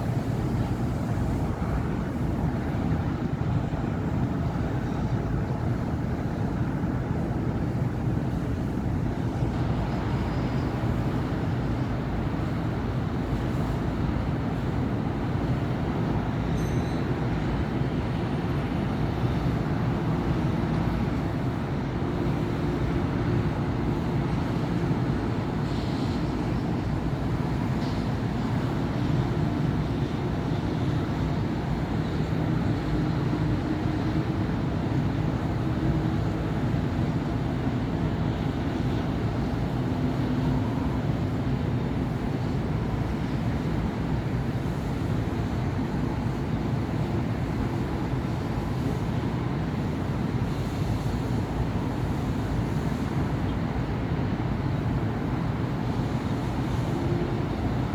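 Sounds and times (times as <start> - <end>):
cars and buses passing: 0.0 - 57.9.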